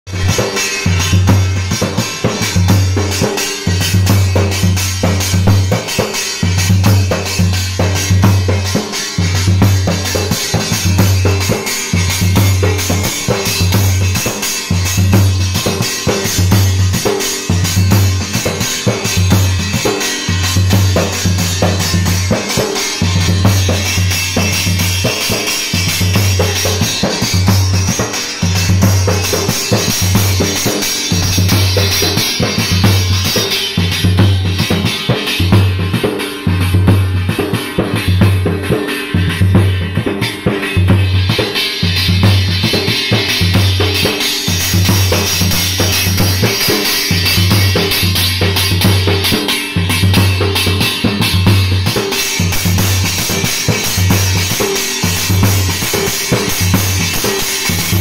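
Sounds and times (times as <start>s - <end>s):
dhol drum beating: 0.1s - 58.0s.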